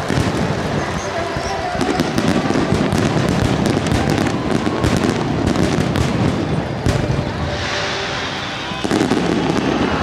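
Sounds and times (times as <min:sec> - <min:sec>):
fireworks booming and crackling: 0:00.0 - 0:10.0.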